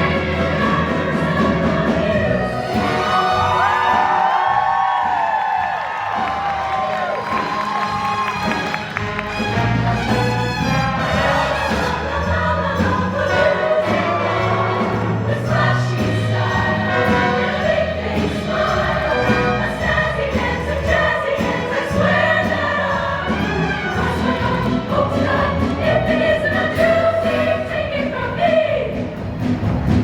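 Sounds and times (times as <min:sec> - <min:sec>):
choir singing: 0:00.0 - 0:06.3, 0:08.4 - 0:29.3
live band playing: 0:05.9 - 0:30.0.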